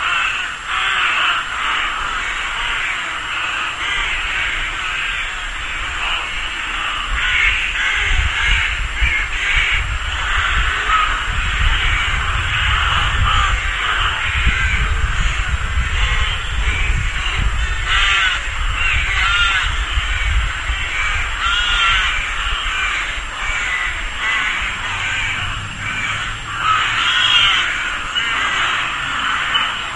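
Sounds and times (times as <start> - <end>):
rooks cawing: 0.0 - 29.9.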